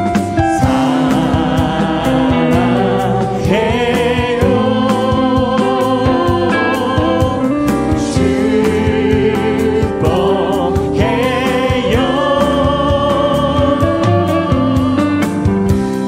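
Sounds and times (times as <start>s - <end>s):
band accompaniment with steady beat: 0.0s - 16.0s
voices singing in harmony: 0.2s - 16.0s.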